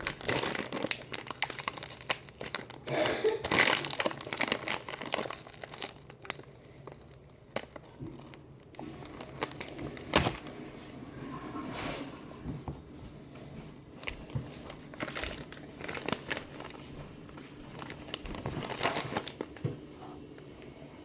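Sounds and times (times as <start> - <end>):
packaging crinkling and rustling: 0.0 - 10.8, 14.0 - 20.7.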